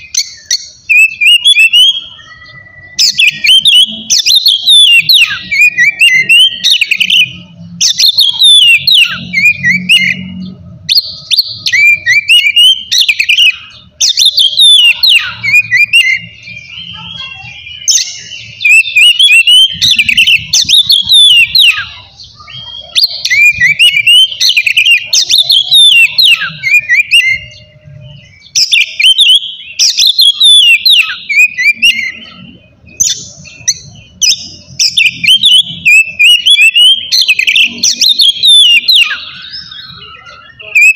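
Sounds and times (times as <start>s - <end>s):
songbird whistling and trilling: 0.0s - 40.9s.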